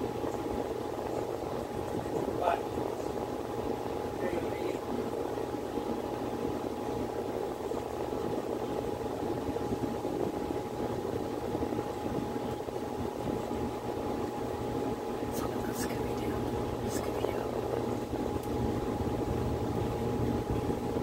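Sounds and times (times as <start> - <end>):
low hum: 0.0 - 21.0
thin constant whine: 0.0 - 21.0.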